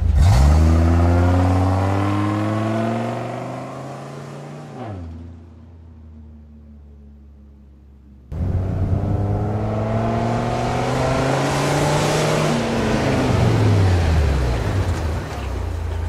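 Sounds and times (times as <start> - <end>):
truck engine accelerating: 0.0 - 16.0.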